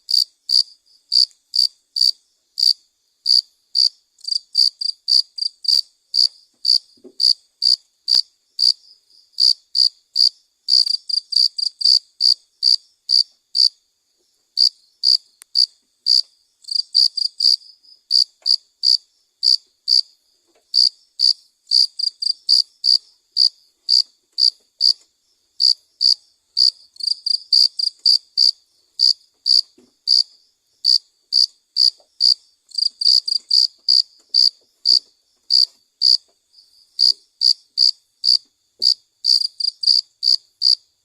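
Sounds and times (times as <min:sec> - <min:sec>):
cricket chirping: 0:00.1 - 0:41.0.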